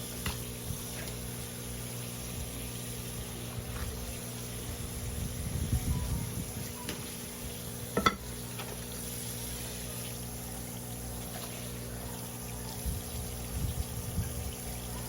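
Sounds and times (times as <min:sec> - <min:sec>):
pump hum: 0:00.0 - 0:15.0
running water: 0:00.0 - 0:15.0.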